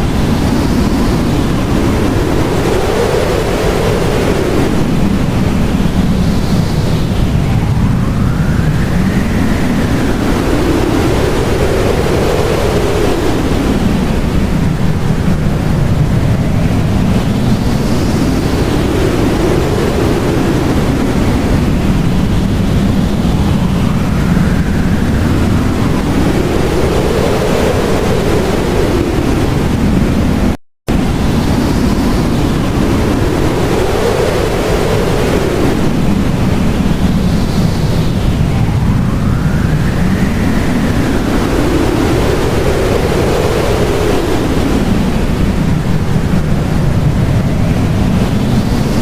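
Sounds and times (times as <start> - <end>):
howling blizzard wind: 0.0 - 49.0.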